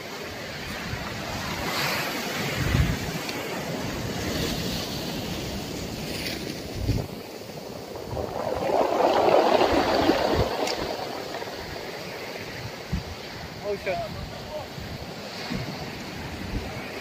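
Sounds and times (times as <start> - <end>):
surf breaking on beach: 0.0 - 17.0
wind buffeting microphone: 0.2 - 17.0.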